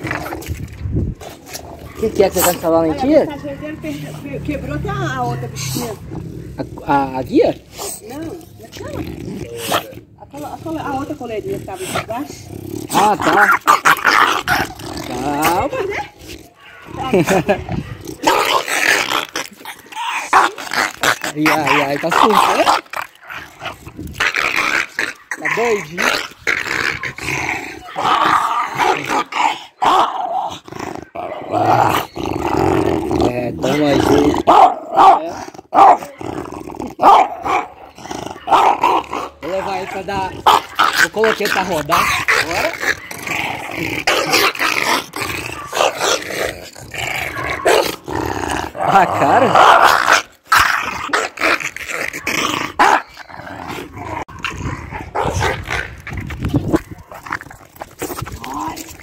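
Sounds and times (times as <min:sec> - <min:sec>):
dog growling aggressively: 0:00.0 - 0:59.0.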